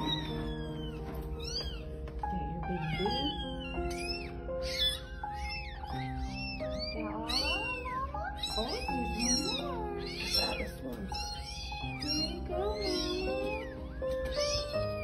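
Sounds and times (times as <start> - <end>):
cats mewing: 0.0 - 15.0
soft background music: 0.0 - 15.0.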